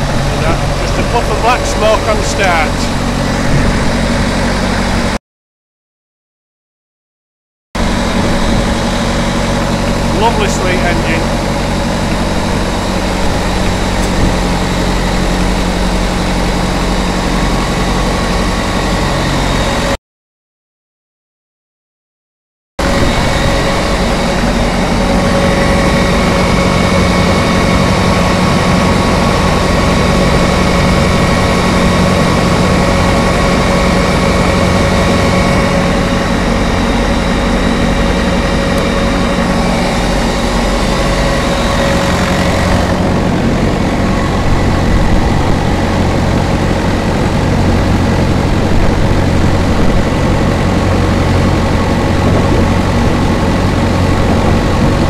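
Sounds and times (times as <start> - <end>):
diesel engine running: 0.0 - 5.2, 7.8 - 20.0, 22.8 - 55.0
high whine: 0.0 - 5.2, 7.8 - 20.0, 22.8 - 55.0.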